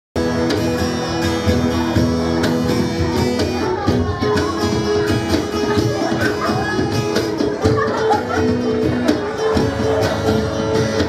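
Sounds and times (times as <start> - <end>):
cajon: 0.2 - 11.0
guitars playing sustained chords: 0.2 - 11.0.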